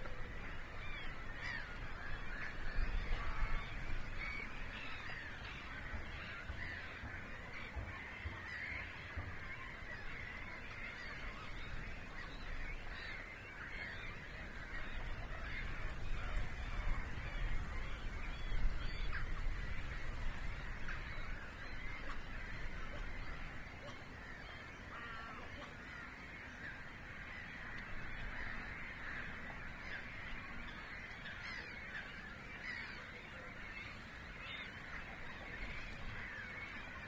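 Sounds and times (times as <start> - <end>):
waterbirds calling: 0.0 - 37.0.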